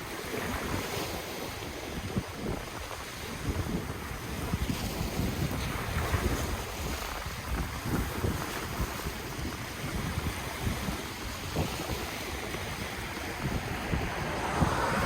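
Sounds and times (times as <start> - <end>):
ocean waves on shore: 0.0 - 15.0
wind gusting on microphone: 0.0 - 15.0.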